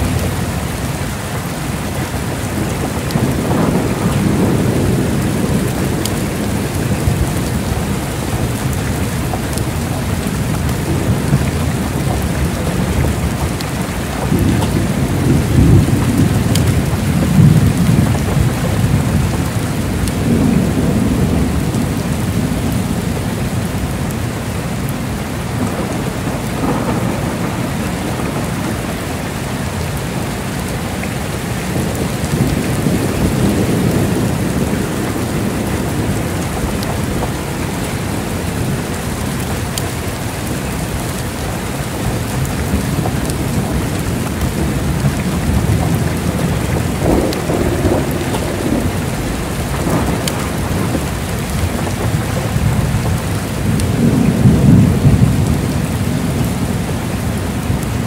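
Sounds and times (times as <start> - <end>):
heavy rain falling: 0.0 - 58.0
low rolls of thunder: 0.0 - 58.0.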